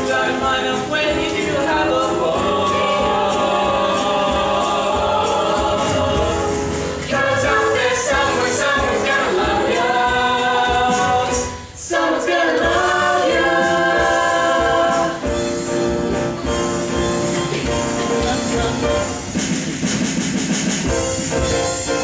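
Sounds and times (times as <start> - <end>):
group of voices singing: 0.0 - 18.3
instrumental backing: 0.0 - 22.0.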